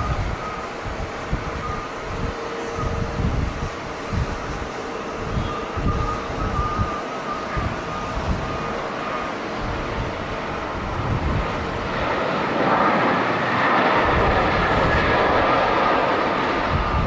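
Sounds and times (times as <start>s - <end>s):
jet engines rushing: 0.0s - 17.0s
wind buffeting microphone: 0.0s - 17.0s.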